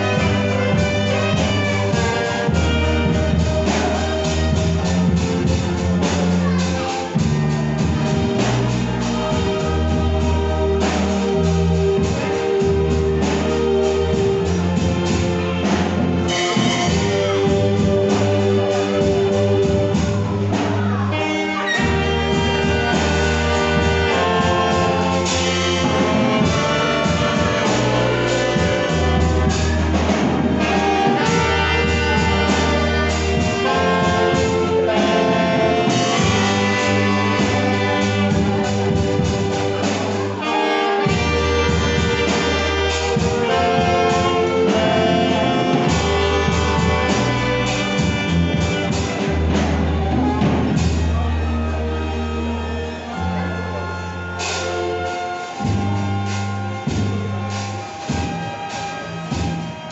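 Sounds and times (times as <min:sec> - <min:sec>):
deep bass line: 0:00.0 - 0:59.9
saxophone ensemble: 0:00.0 - 0:59.9
violins playing: 0:00.0 - 0:59.9.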